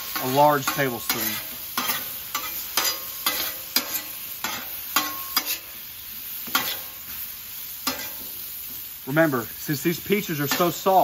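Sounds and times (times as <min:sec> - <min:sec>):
metal spatula scraping griddle: 0:00.0 - 0:07.2, 0:07.8 - 0:08.8, 0:10.0 - 0:11.0
fruit and butter sizzling on griddle: 0:00.0 - 0:11.0.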